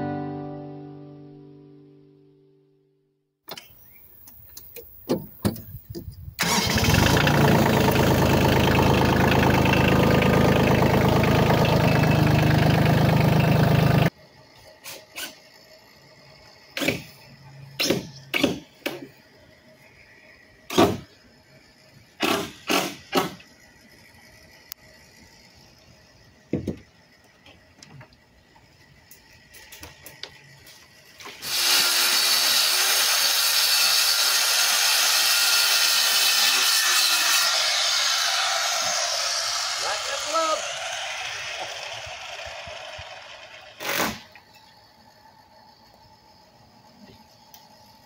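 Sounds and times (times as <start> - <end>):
circular saw cutting plywood: 7.0 - 48.0.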